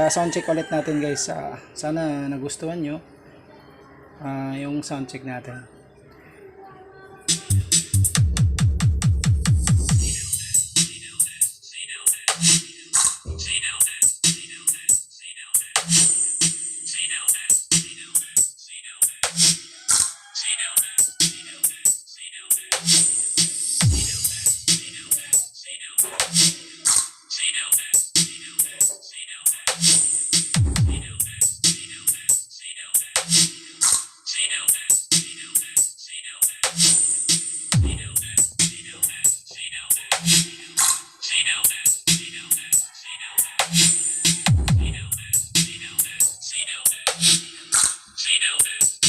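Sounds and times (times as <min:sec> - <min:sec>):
drum machine beat music: 0:07.3 - 0:20.2, 0:20.8 - 0:49.0.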